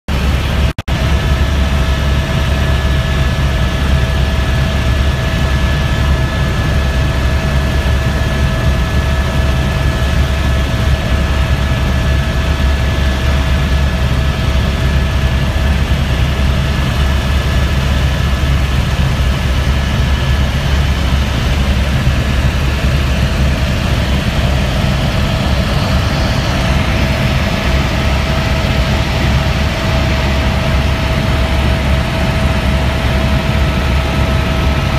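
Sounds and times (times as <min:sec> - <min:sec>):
helicopter rotor and engine drone: 0:00.1 - 0:34.9
high whine: 0:00.1 - 0:34.9.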